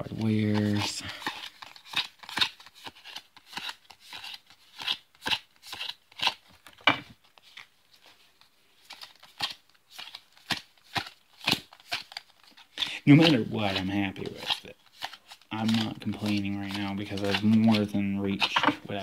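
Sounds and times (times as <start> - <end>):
cards flicking and slapping: 0.1 - 7.7, 8.8 - 19.0.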